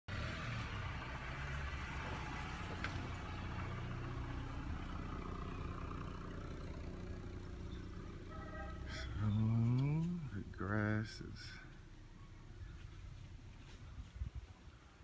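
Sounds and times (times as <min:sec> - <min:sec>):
car engine idling: 0:00.6 - 0:14.2.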